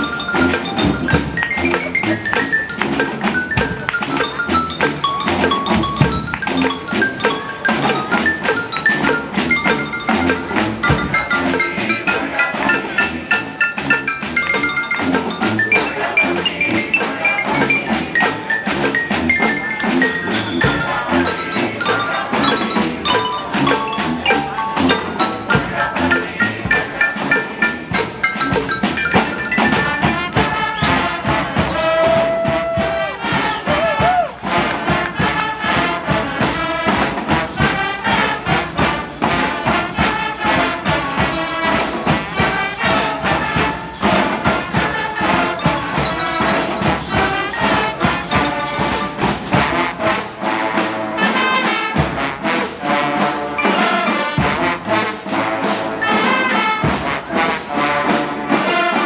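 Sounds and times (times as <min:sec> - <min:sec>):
street band playing salsa: 0:00.0 - 0:59.0.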